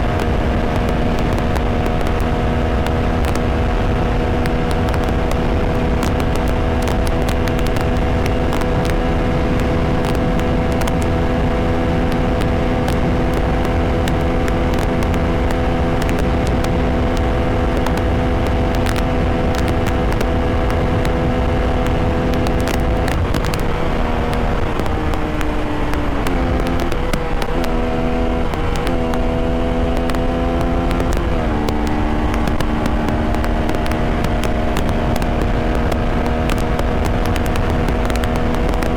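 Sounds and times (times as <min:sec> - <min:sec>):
motorcycle engine cruising: 0:00.0 - 0:38.9
wind on microphone: 0:00.0 - 0:38.9.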